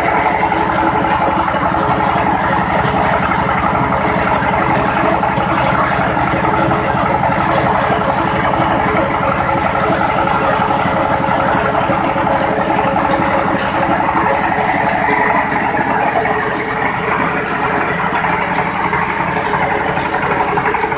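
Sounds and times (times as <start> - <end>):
pellet mill machine drone: 0.0 - 20.9.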